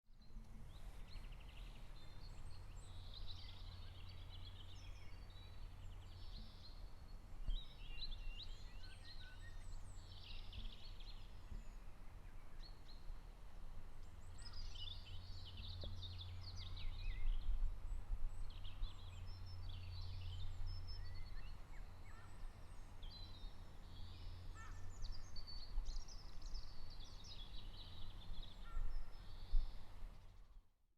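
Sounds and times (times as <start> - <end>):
songbirds chirping and trilling: 0.1 - 30.6.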